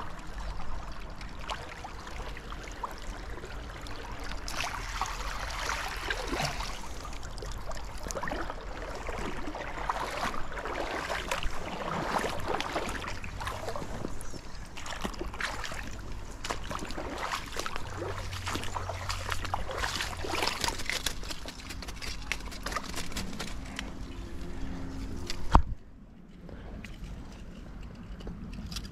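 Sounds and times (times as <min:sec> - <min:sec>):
stream water splashing: 0:00.0 - 0:25.7
person wading in water: 0:00.1 - 0:25.2.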